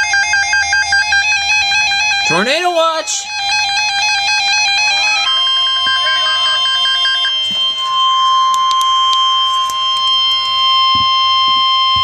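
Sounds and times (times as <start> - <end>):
steady alarm beep: 0.0 - 12.0
digital header bursts: 1.2 - 12.0.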